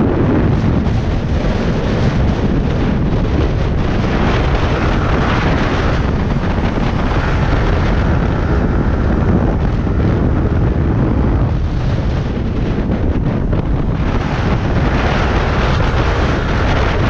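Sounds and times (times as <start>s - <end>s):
motorcycle engine running: 0.0s - 17.0s
road noise: 0.0s - 17.0s
wind buffeting microphone: 0.0s - 17.0s.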